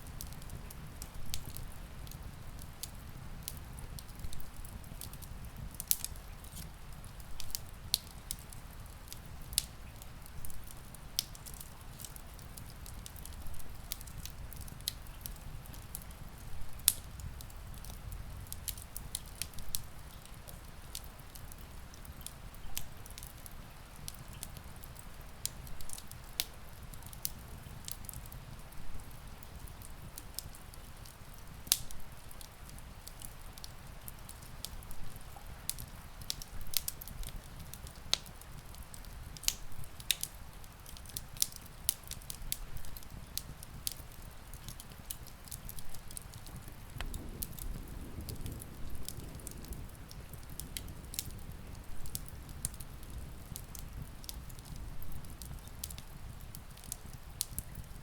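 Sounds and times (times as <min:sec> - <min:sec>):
rain: 0:00.0 - 0:58.0
wood fire crackling: 0:00.0 - 0:58.0.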